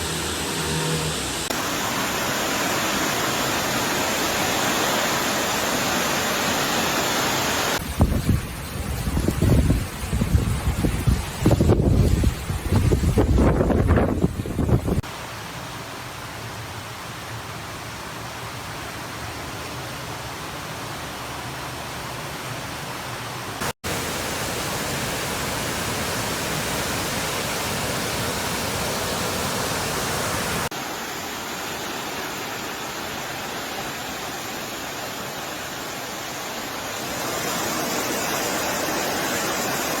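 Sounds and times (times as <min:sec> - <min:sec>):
heavy rain: 0:00.0 - 0:21.9, 0:22.5 - 0:40.0
wind: 0:00.0 - 0:40.0.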